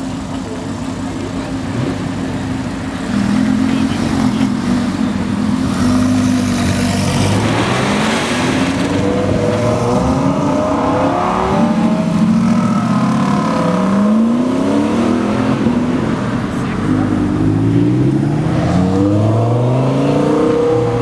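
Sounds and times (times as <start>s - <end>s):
car engine accelerating: 0.2s - 21.0s.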